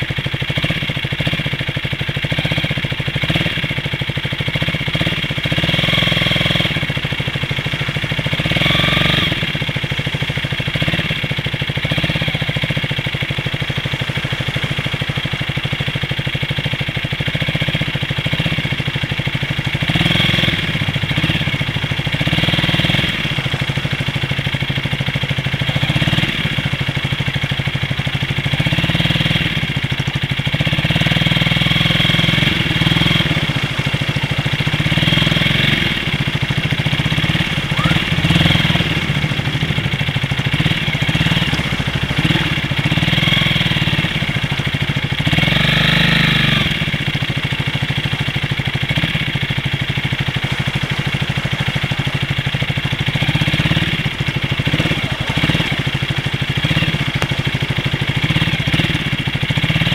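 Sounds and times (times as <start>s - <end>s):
traffic: 0.0s - 59.9s
vehicle engine running: 0.0s - 59.9s
water splashing: 0.0s - 59.9s.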